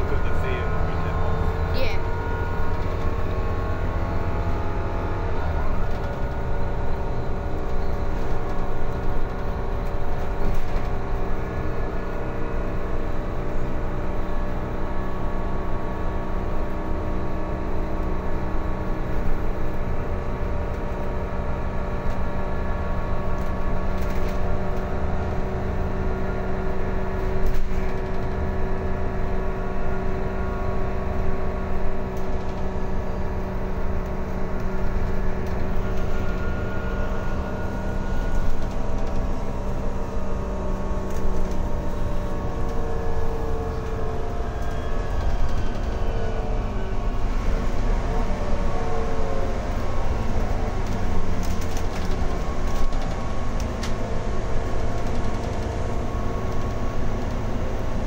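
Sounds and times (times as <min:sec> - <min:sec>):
bus engine drone: 0:00.0 - 0:58.0
road rumble: 0:00.0 - 0:58.0.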